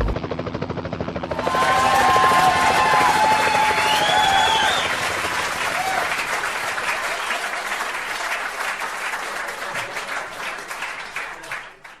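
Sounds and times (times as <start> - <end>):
crowd applause: 1.2 - 12.0.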